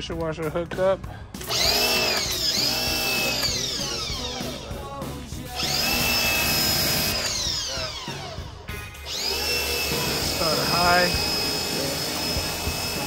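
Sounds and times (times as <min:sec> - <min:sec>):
pressure washer motor whine: 0:01.4 - 0:04.8, 0:05.5 - 0:13.0.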